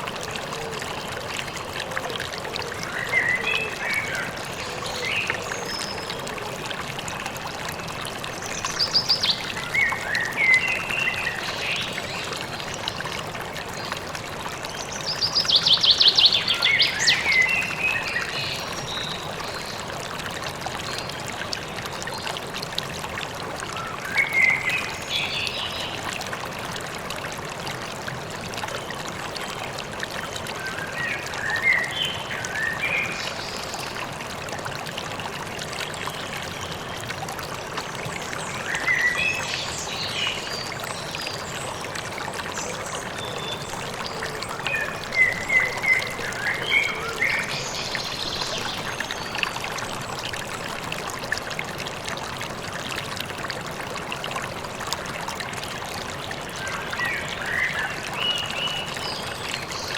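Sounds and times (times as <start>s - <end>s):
river running: 0.0s - 59.9s.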